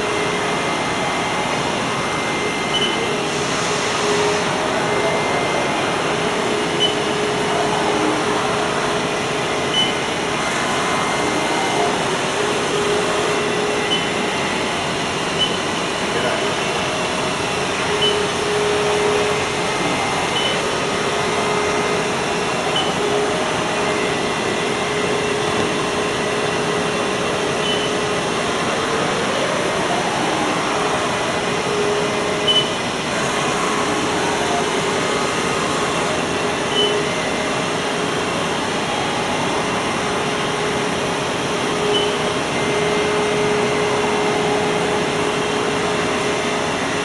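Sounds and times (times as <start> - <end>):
lathe mechanical hum: 0.0 - 47.0.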